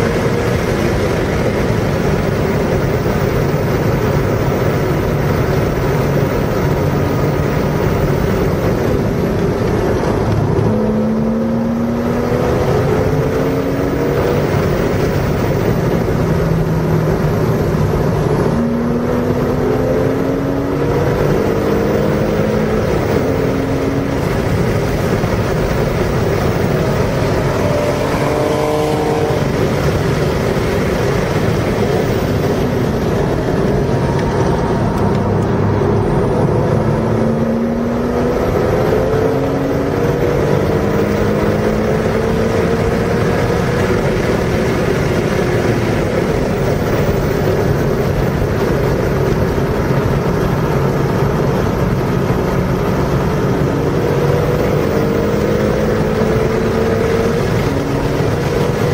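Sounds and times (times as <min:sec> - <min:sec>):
car engine accelerating: 0:00.0 - 0:58.9
wind and road rush: 0:00.0 - 0:58.9.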